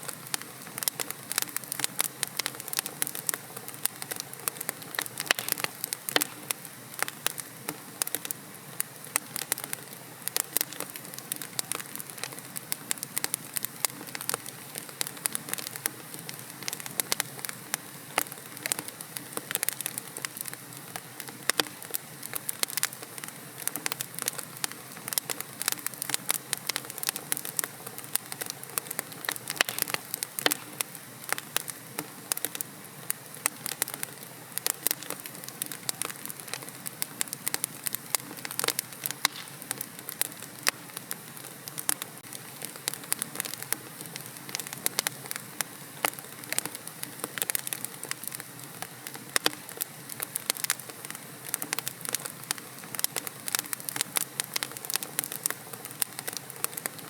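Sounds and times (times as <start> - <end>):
soft hiss of flame: 0.0 - 57.0
wood fire crackling and popping: 0.0 - 57.0.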